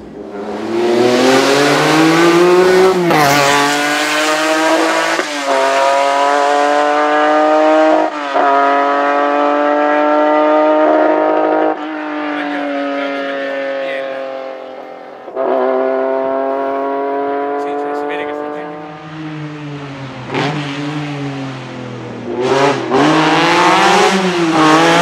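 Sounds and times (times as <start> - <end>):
car engine accelerating through gears: 0.0 - 25.0.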